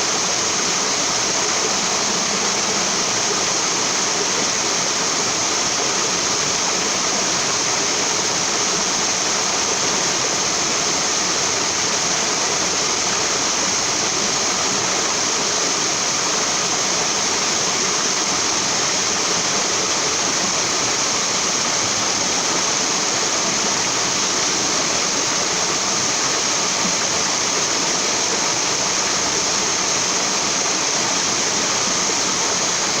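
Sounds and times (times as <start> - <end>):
small waterfall splashing: 0.0 - 33.0.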